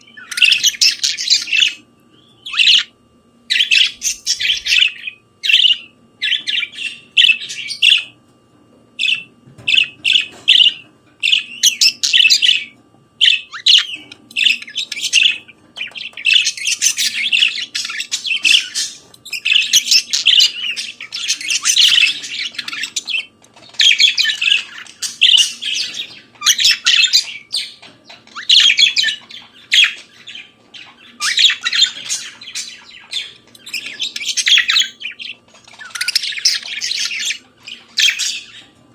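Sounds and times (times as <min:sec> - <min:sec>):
budgerigars warbling: 0:00.0 - 0:02.9, 0:03.5 - 0:08.1, 0:09.0 - 0:38.8.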